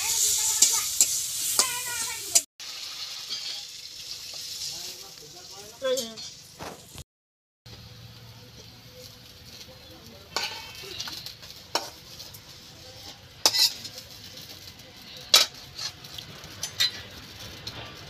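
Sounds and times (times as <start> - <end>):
faint sizzle from pan: 0.0 - 7.0, 7.7 - 18.0.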